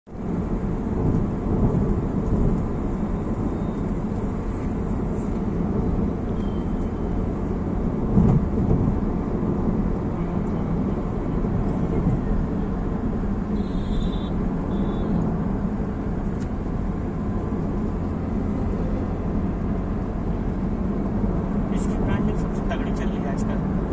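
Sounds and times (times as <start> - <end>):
car road and engine noise: 0.0 - 23.9.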